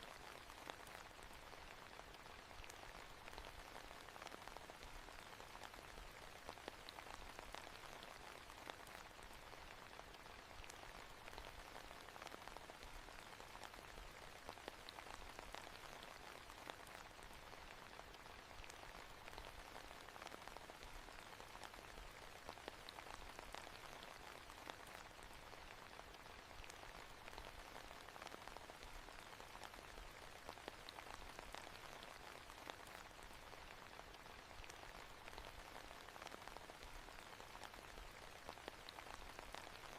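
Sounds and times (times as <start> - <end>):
faint steady rain: 0.0 - 39.9.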